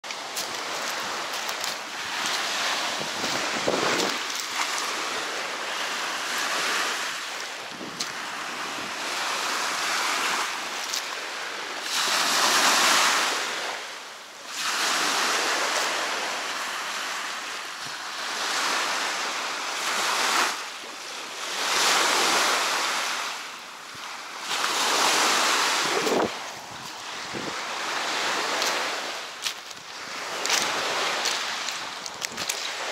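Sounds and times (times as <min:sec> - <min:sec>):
waves washing on pebble shore: 0:00.0 - 0:32.9.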